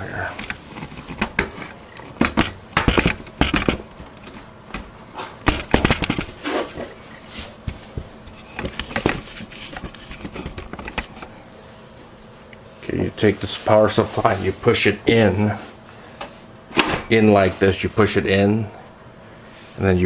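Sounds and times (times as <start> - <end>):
equipment handling noise: 0.0 - 18.9.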